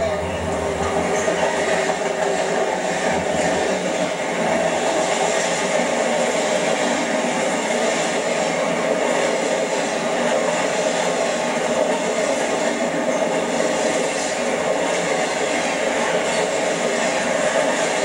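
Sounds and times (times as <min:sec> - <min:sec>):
steel wheels rushing on rail: 0:00.0 - 0:18.0.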